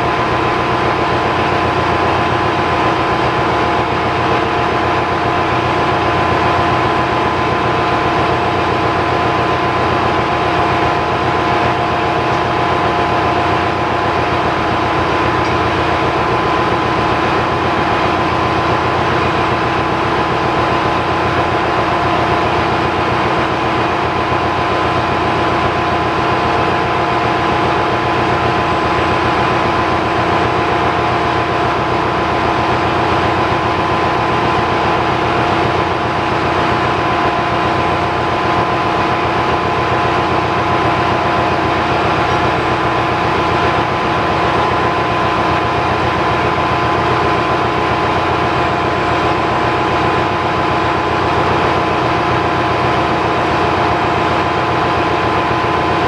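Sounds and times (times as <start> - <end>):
engine room machinery drone: 0.0 - 56.0.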